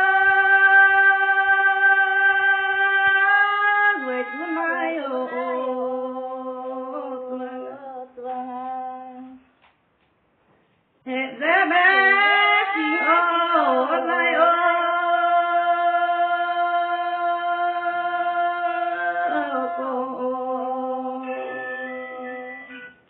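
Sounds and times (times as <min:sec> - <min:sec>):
women singing unaccompanied: 0:00.0 - 0:09.5, 0:11.1 - 0:22.3.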